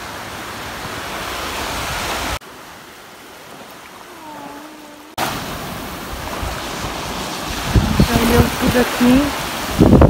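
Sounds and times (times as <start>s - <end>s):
shallow sea water at shore: 0.0s - 10.0s
wind: 0.0s - 10.0s.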